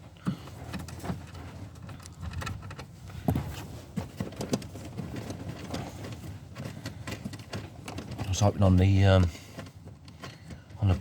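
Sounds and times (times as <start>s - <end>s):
hand tools clicking and knocking: 0.0s - 11.0s.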